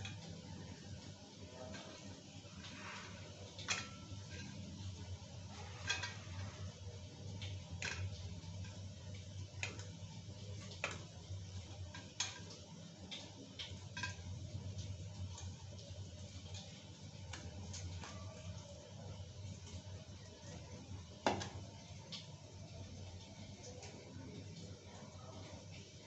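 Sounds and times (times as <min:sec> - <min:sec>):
low steady hum: 0:00.0 - 0:26.0
spices crackling in hot oil: 0:00.0 - 0:26.0.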